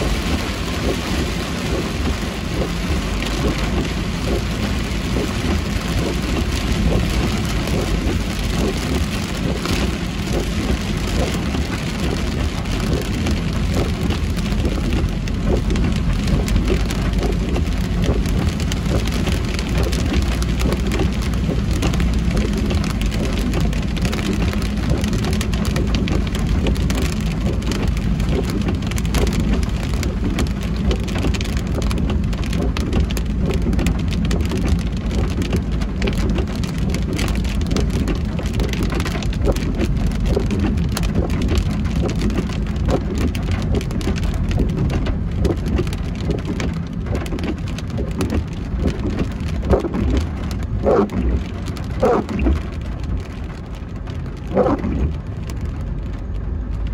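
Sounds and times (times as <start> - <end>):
car tyres rumbling on wet road: 0.0 - 56.9
heavy rain on a car: 0.0 - 56.9.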